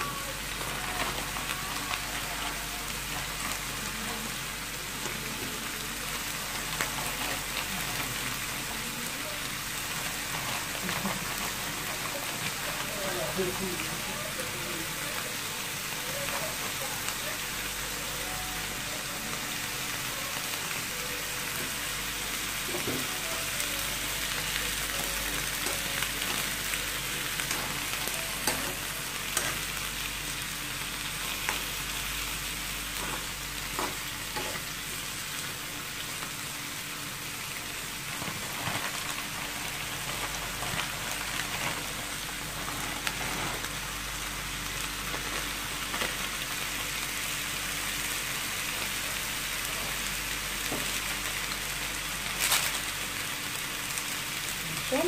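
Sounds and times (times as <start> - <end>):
food sizzling in a wok: 0.0 - 55.0.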